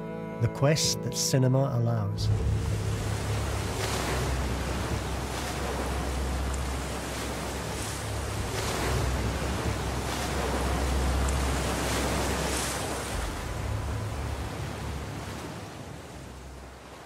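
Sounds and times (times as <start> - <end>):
waves breaking and washing: 2.0 - 17.0
deep surf rumble: 2.2 - 17.0.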